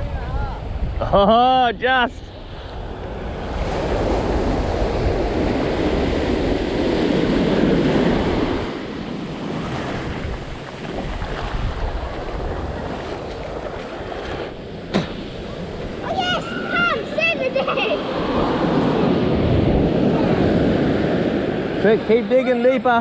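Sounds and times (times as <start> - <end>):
wind buffeting microphone: 0.0 - 22.4
surf washing in shallow water: 0.0 - 23.0.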